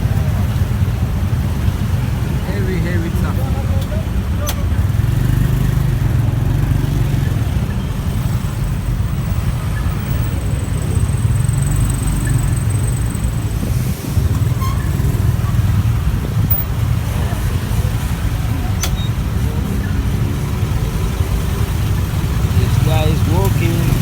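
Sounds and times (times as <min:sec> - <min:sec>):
motorbike engine rumble: 0:00.0 - 0:24.0
road noise: 0:00.0 - 0:24.0.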